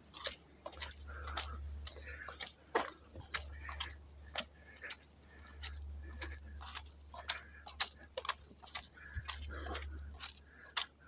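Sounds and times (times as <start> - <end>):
footsteps on wet gravel: 0.0 - 11.0.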